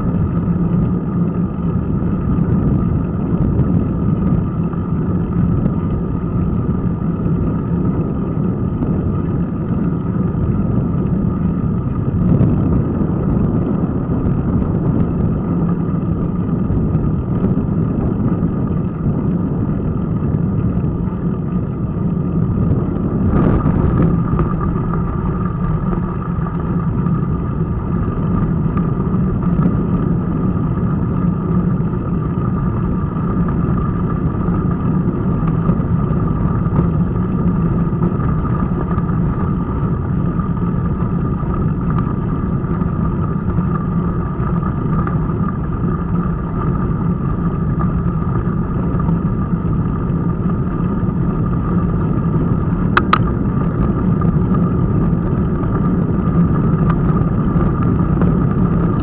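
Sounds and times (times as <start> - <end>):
wind and tyre noise: 0.0 - 59.0.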